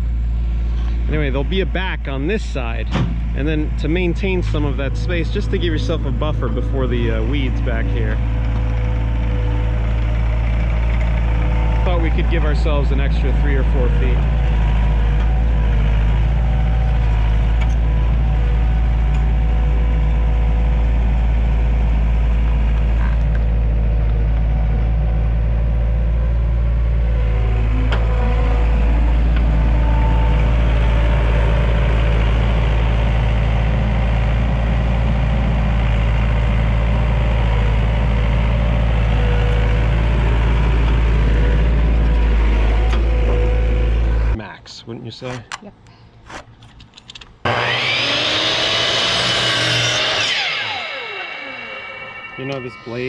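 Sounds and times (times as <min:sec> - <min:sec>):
tractor engine running: 0:00.0 - 0:44.5.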